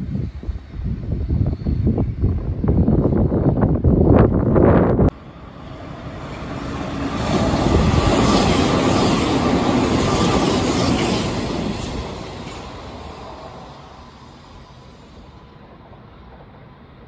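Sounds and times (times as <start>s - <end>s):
electric train running past: 0.0s - 17.0s.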